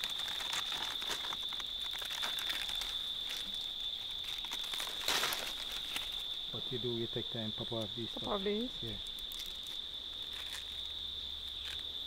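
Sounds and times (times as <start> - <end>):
high insect drone: 0.0 - 12.0
leaves crackling and rustling: 0.0 - 12.0.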